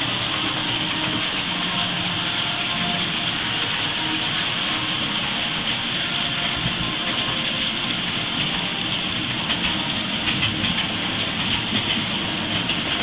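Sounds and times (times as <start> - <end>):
constant hiss: 0.0 - 13.0
train rumbling past: 0.0 - 13.0.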